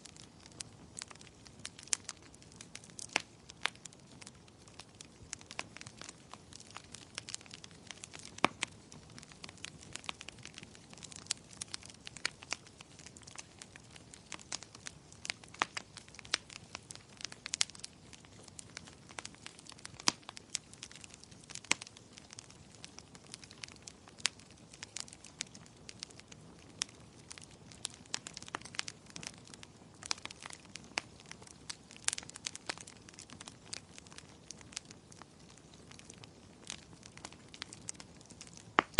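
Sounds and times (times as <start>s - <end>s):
sharp pops and snaps: 0.0s - 38.9s
soft steady hiss: 0.0s - 38.9s
wood fire crackling: 0.0s - 38.9s.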